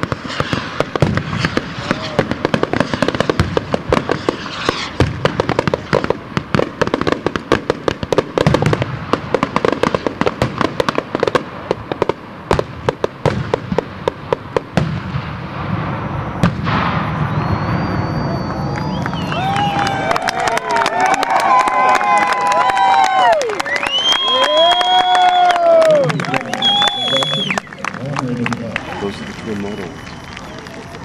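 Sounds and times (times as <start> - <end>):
fireworks crackling pops: 0.0 - 31.0.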